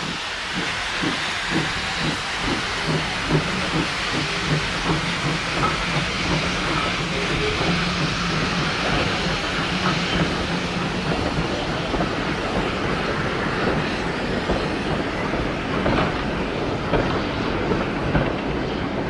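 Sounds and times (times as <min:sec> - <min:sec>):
train wheels clicking on rails: 0:00.0 - 0:19.0.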